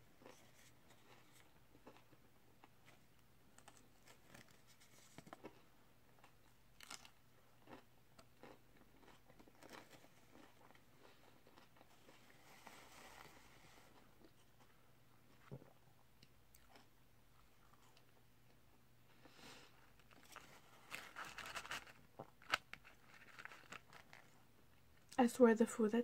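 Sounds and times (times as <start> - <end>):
low steady hum: 0.0 - 26.0
person chewing food: 0.1 - 24.4.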